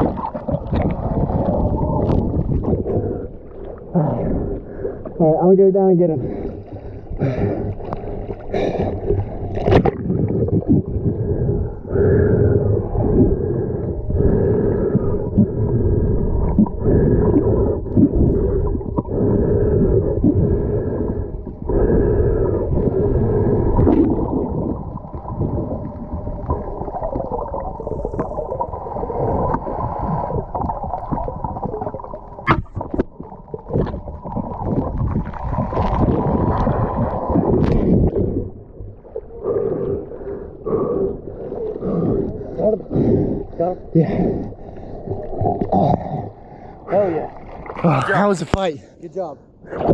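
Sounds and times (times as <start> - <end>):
underwater rushing gurgling water: 0.0 - 5.4, 6.1 - 48.7.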